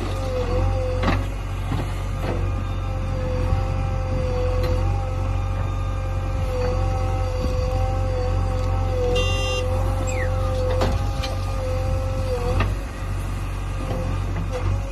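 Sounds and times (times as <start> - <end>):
diesel engine running under load: 0.0 - 14.9
hydraulic whine: 0.0 - 14.9.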